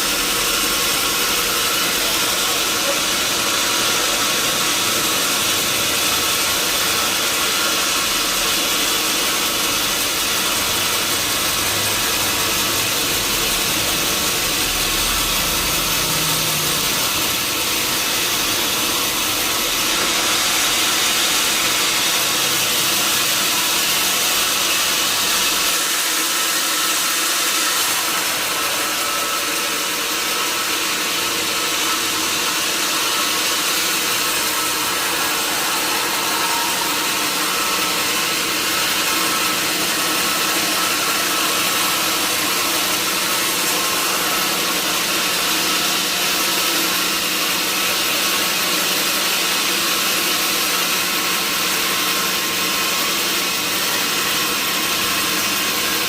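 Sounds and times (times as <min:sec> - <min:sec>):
sawmill saw running: 0:00.0 - 0:56.0.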